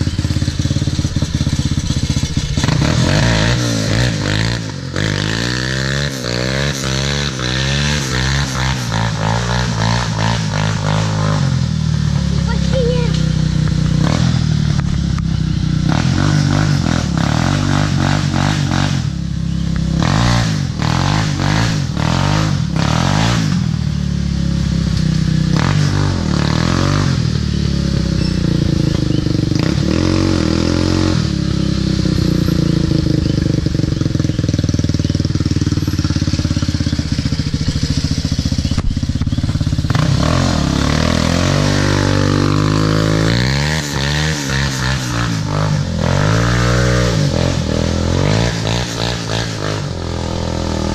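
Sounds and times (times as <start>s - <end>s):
quad engine revving: 0.0s - 50.9s.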